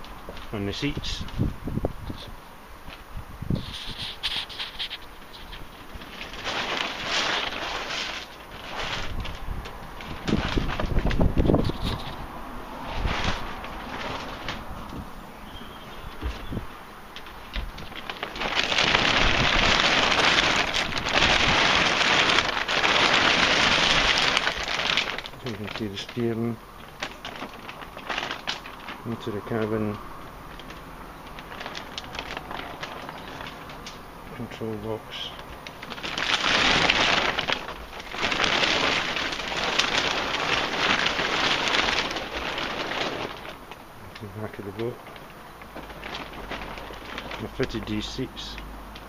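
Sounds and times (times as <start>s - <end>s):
fabric cover rustling on microphone: 0.0s - 30.0s, 30.6s - 33.8s, 34.4s - 48.3s.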